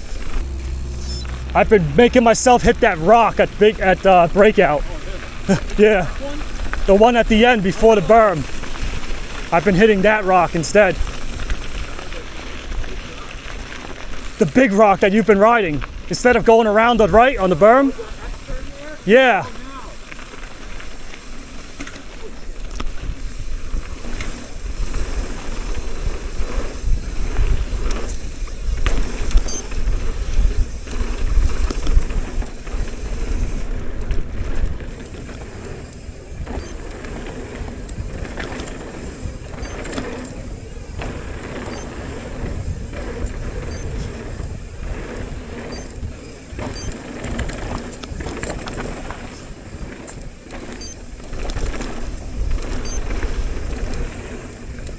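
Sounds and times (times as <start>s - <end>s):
bike knocking and rattling: 0.0s - 54.9s
tyres rolling over dirt and rock: 0.0s - 54.9s
wind rumbling on microphone: 0.0s - 54.9s.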